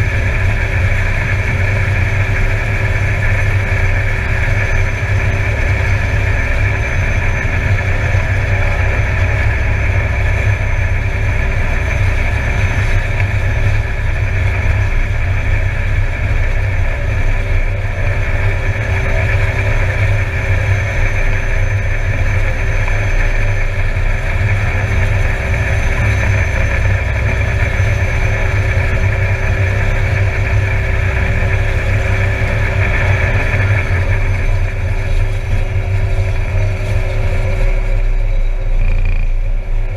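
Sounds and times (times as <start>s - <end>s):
low propeller drone: 0.0s - 39.9s
turbine whine: 0.0s - 39.9s.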